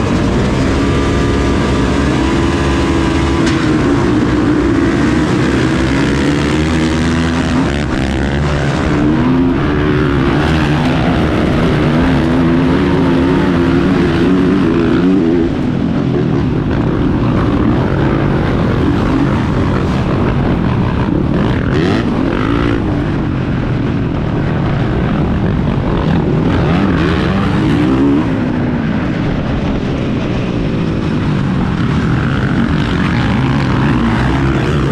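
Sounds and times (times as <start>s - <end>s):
motocross bike engine revving: 0.0s - 23.5s, 24.7s - 28.8s, 31.6s - 34.9s.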